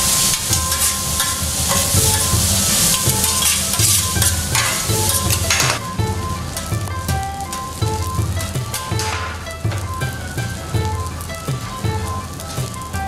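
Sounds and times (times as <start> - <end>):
rice sizzling on a griddle: 0.0 - 5.9, 6.5 - 13.0
metal spatulas scraping steel: 0.0 - 10.6.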